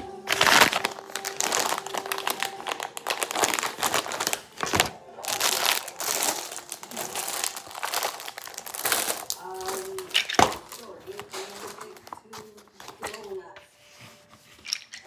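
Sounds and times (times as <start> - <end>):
plastic packaging crinkling: 0.0 - 13.4.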